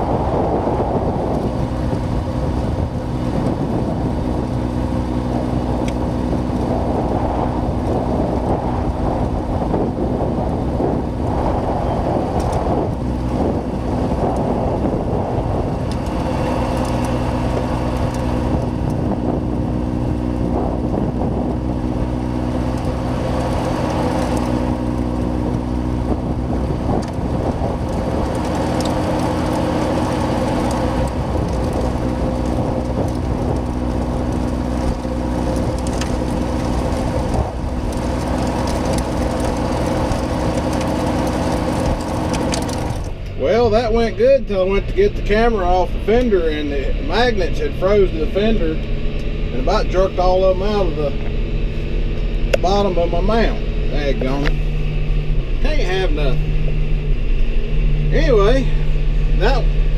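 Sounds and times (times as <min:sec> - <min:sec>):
tractor diesel engine under load: 0:00.0 - 0:59.9
wind rumbling on microphone: 0:00.0 - 0:59.9.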